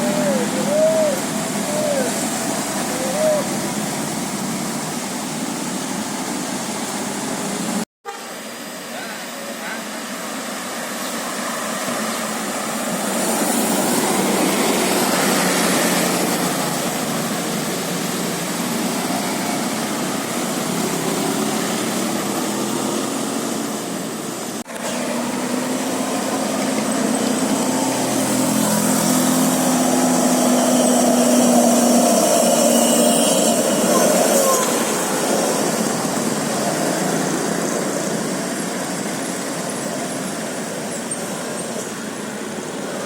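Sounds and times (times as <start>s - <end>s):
bus engine running: 0.0s - 43.0s
road noise: 0.0s - 43.0s.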